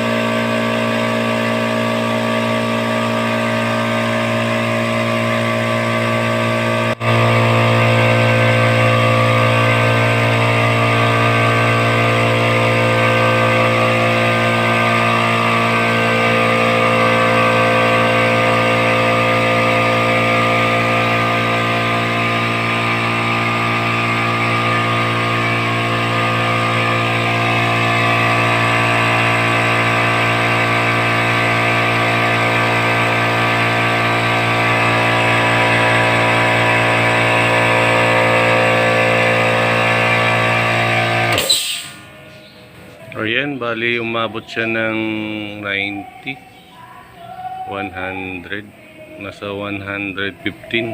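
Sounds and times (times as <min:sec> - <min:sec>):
electric air compressor running: 0:00.0 - 0:46.2.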